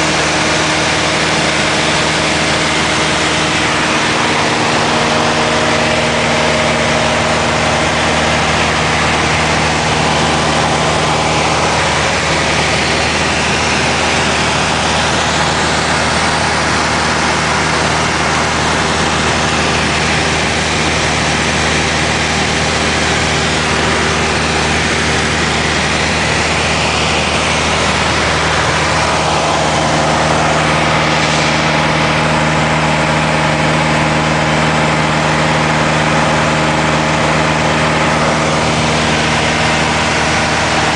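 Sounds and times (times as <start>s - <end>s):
airflow rushing: 0.0s - 40.9s
propeller plane engine droning: 0.0s - 40.9s.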